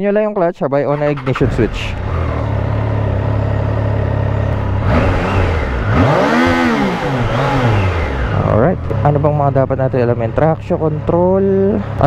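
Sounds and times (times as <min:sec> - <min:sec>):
motorcycle engine idling and revving: 0:00.9 - 0:12.0.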